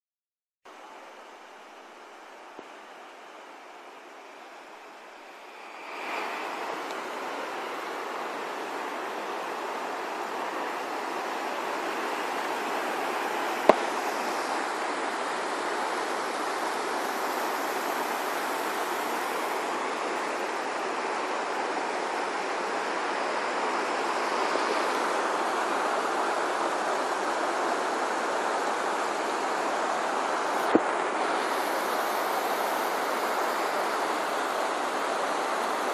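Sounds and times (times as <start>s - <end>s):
waterfall rushing: 2.3s - 35.9s.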